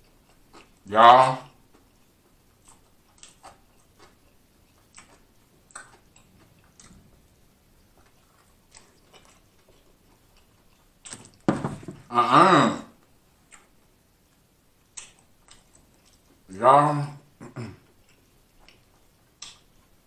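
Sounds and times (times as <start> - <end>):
person chewing: 0.0 - 0.9, 1.5 - 12.1, 13.0 - 16.5, 17.3 - 20.0.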